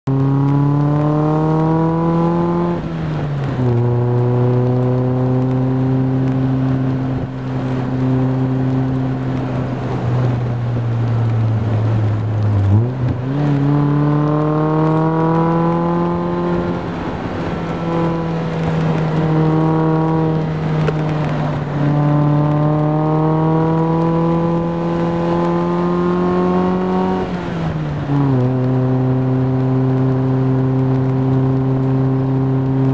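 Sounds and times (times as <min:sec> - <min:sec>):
car engine exhaust note: 0:00.1 - 0:27.3.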